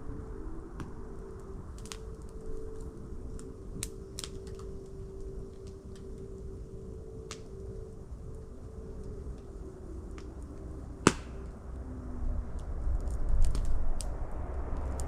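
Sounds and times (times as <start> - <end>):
faint hum: 0.0 - 15.0
low rumble: 0.0 - 15.0
wood fire crackling: 0.0 - 15.0.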